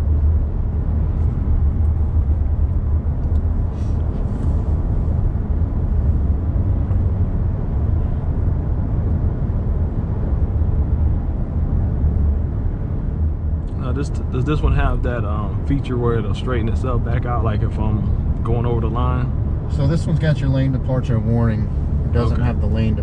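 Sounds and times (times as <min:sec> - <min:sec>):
road and engine rumble: 0:00.0 - 0:23.0.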